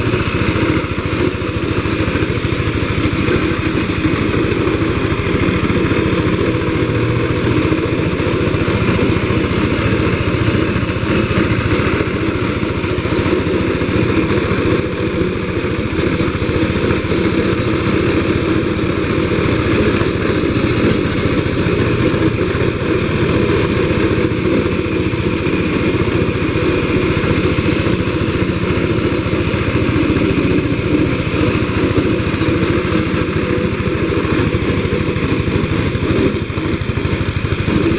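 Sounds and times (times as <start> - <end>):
small engine running: 0.0 - 37.9.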